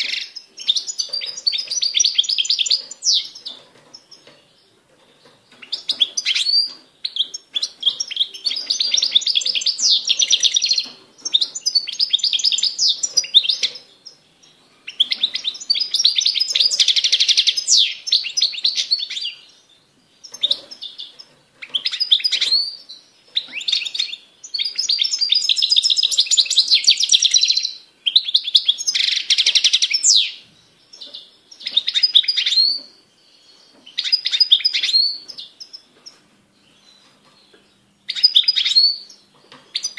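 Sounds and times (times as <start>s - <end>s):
finch singing twittering trills: 0.0s - 39.9s.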